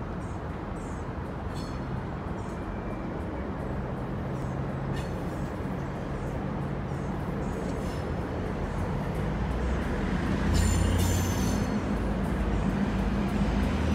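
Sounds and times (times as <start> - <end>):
diesel locomotives rumbling: 0.0 - 13.9.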